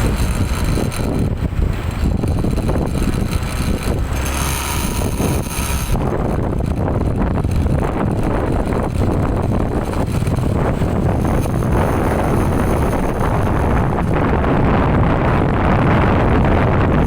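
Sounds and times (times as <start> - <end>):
heavy vehicle engine and road rumble: 0.0 - 17.0
wind buffeting microphone: 0.0 - 17.0.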